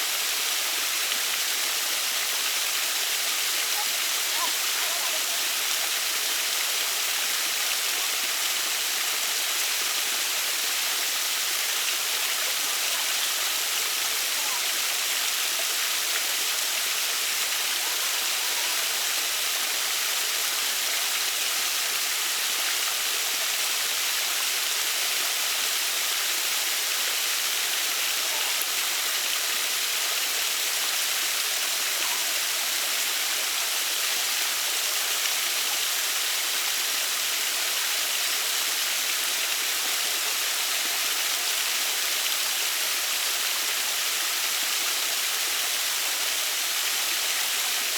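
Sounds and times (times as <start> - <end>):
waterfall rushing and splashing: 0.0 - 47.9.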